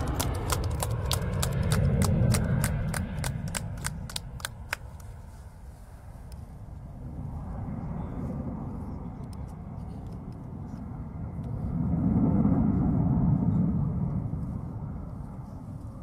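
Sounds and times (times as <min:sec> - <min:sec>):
distant jet engines rumbling: 0:00.0 - 0:16.0.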